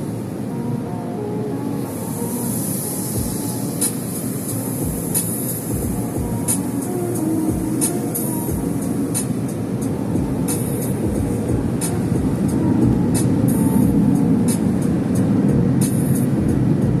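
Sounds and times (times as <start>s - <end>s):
car wash rumble: 0.0s - 17.0s
water spray hissing: 1.7s - 16.8s.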